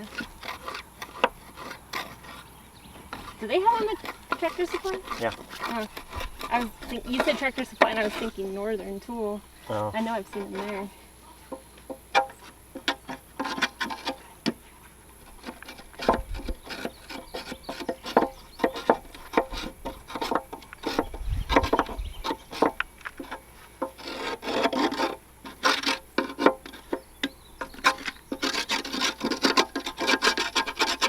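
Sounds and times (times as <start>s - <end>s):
scraping and rasping on steel: 0.0s - 31.0s.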